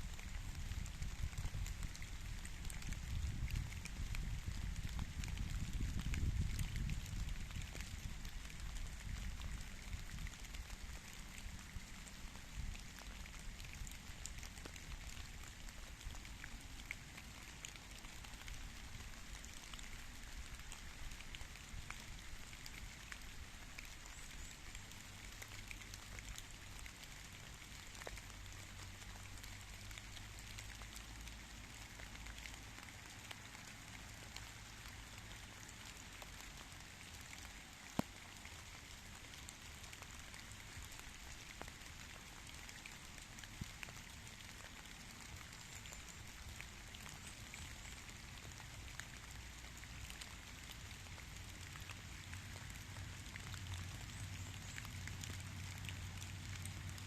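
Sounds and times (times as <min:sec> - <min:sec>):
light rain falling: 0:00.0 - 0:57.0
raindrops ticking: 0:00.0 - 0:57.0.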